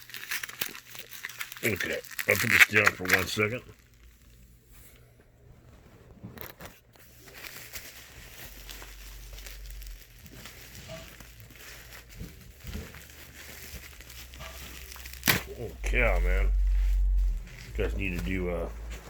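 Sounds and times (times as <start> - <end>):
packaging crinkling and tearing: 0.0 - 4.5, 6.1 - 19.0.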